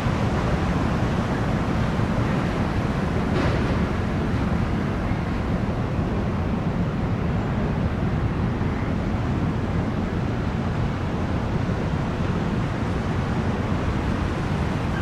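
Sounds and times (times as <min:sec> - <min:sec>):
boat engine low rumble: 0:00.0 - 0:15.0
rushing wind and water: 0:00.0 - 0:15.0.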